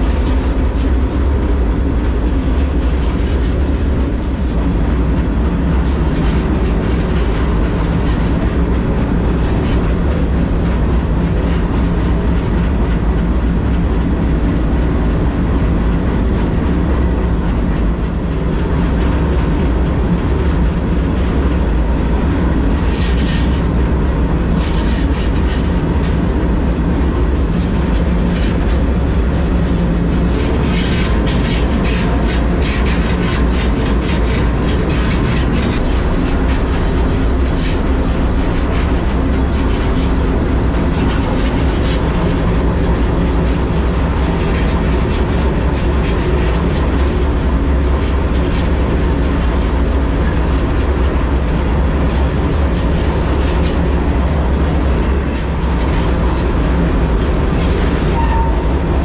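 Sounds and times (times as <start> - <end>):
clickety-clack of rail joints: 0.0 - 59.0
train wheels rumbling on rail: 0.0 - 59.0.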